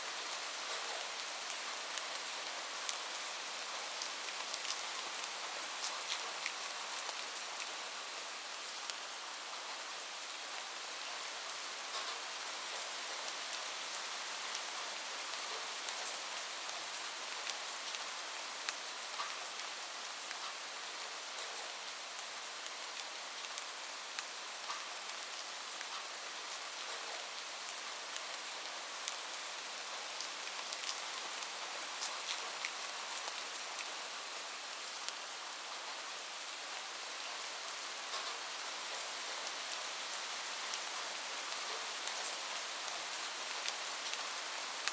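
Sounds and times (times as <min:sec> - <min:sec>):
rain on a roof: 0:00.0 - 0:44.9.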